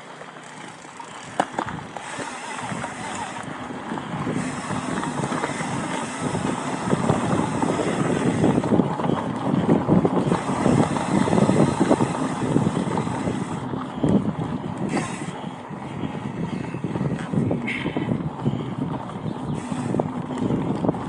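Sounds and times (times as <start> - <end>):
bike rattling: 0.0 - 21.0
bike tyres rolling over rocks: 0.0 - 21.0
wind on microphone: 1.2 - 21.0.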